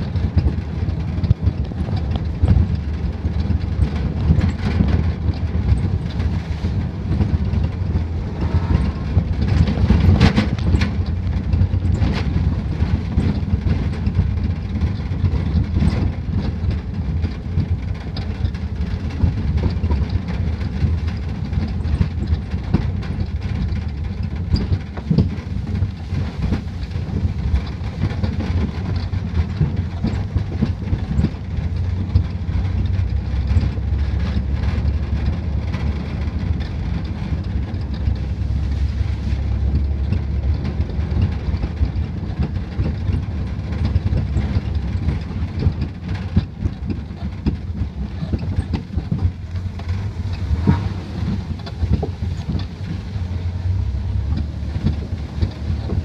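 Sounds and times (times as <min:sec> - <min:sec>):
truck engine rumble: 0:00.0 - 0:56.0
truck rattling over bumps: 0:00.0 - 0:56.0.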